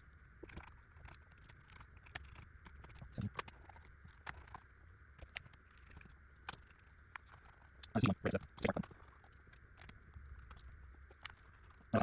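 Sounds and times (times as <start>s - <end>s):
faint ticks of small parts: 0.0s - 12.0s.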